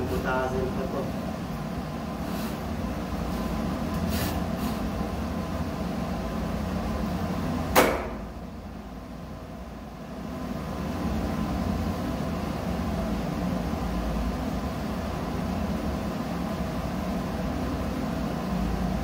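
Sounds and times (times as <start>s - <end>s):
low machinery hum: 0.0s - 19.0s.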